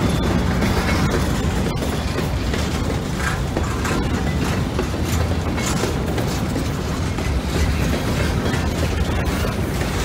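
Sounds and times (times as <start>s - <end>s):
freight train wheels rumbling: 0.0s - 10.0s
wheels clacking over rail joints: 0.0s - 10.0s.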